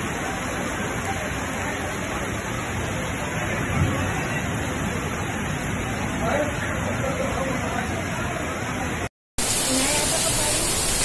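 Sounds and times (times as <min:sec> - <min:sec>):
floodwater rushing down street: 0:00.0 - 0:11.0.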